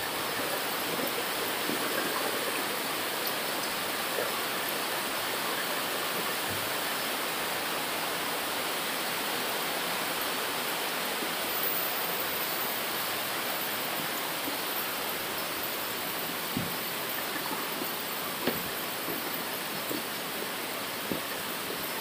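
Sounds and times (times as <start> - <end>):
heavy rain pouring on foliage: 0.0 - 22.0.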